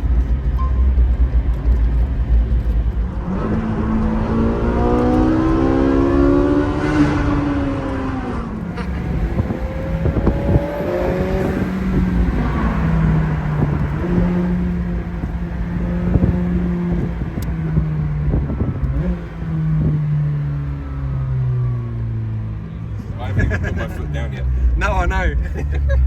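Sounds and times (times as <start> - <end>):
car engine changing gear: 0.0 - 26.0
road and wind noise: 0.0 - 26.0.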